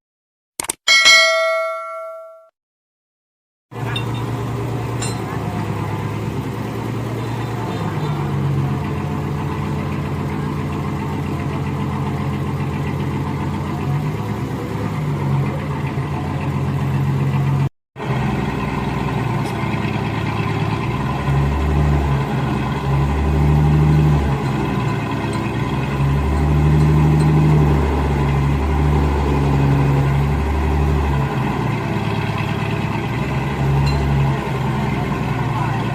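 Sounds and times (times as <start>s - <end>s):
diesel engine running: 3.7s - 35.9s.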